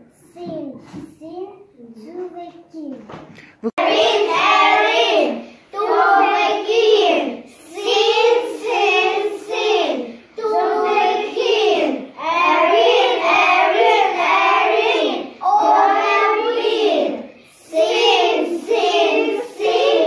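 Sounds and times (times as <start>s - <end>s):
children chanting in unison: 3.8s - 20.0s.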